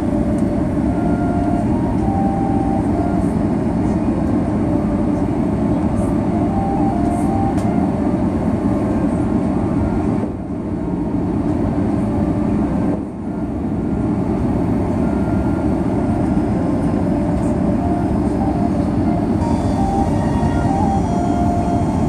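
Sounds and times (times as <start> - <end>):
airplane cabin engine roar: 0.0 - 22.0.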